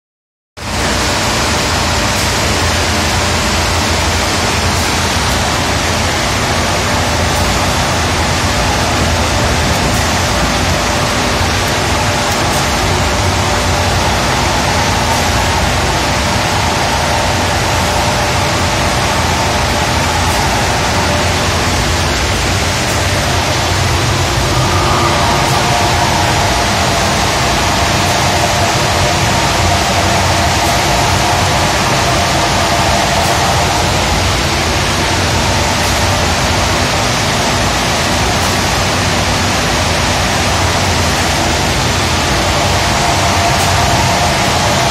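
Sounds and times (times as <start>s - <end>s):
boiler rushing noise: 0.6s - 44.9s
faint steady whine: 0.6s - 44.9s
low hum: 0.6s - 44.9s.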